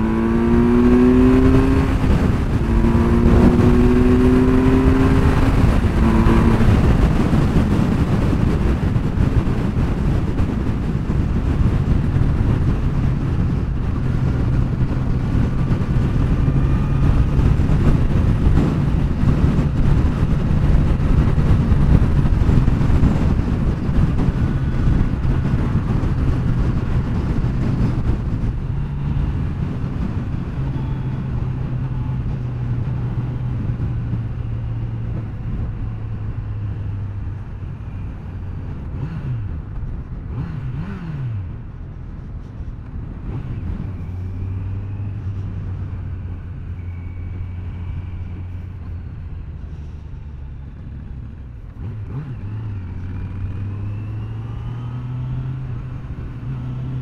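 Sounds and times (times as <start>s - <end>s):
wind rushing: 0.0s - 49.5s
motorcycle engine cruising: 0.0s - 57.0s.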